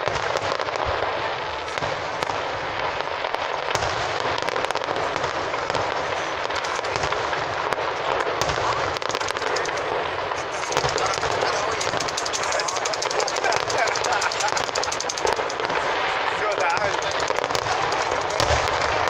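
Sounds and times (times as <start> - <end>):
fireworks crackling and popping: 0.0 - 19.0.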